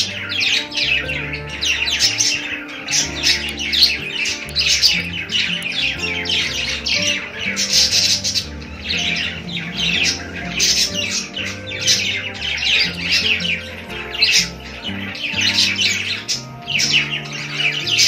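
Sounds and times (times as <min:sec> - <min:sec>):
background music: 0:00.0 - 0:18.0
budgerigars chattering: 0:00.0 - 0:18.0.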